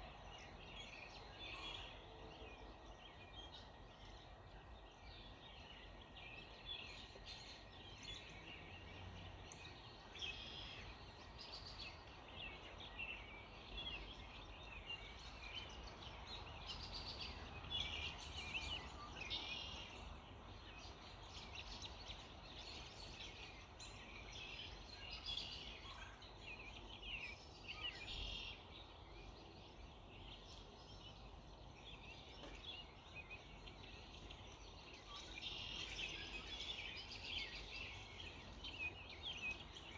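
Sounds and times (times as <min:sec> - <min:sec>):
birds chirping and singing: 0:00.2 - 0:39.9.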